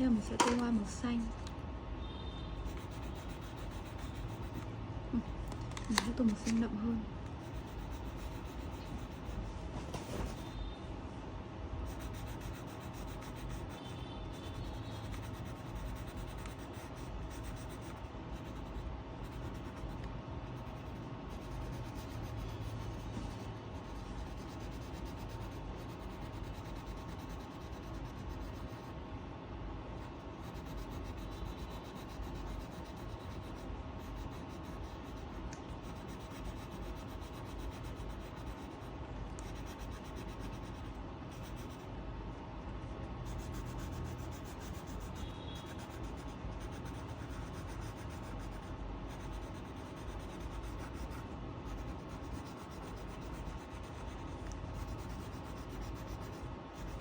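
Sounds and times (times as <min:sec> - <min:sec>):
pencil scratching on paper: 0:02.6 - 0:10.7, 0:11.7 - 0:29.0, 0:29.9 - 0:57.0.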